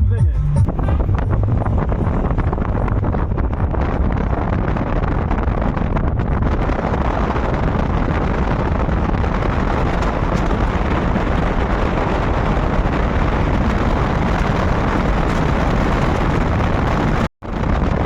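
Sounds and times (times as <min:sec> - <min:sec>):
wind and road noise: 0:00.6 - 0:18.0.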